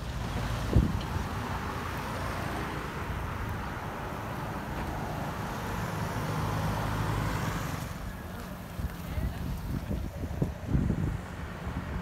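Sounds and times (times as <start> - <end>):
road traffic hum: 0.0 - 12.0
vehicle passing close: 0.0 - 12.0.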